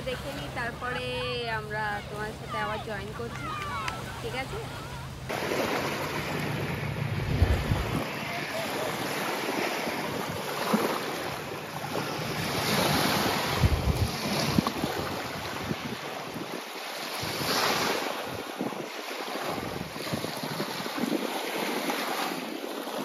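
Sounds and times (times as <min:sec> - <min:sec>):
waves lapping on shore: 0:00.0 - 0:23.0
wind buffeting microphone: 0:00.0 - 0:23.0.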